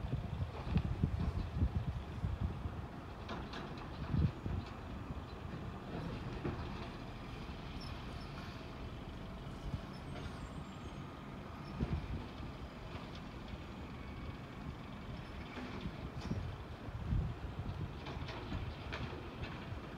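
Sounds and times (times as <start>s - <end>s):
distant garbage truck engine: 0.0s - 19.9s.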